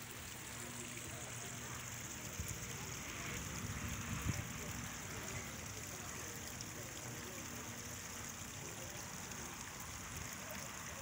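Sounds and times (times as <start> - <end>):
water trickling into pool: 0.0 - 11.0.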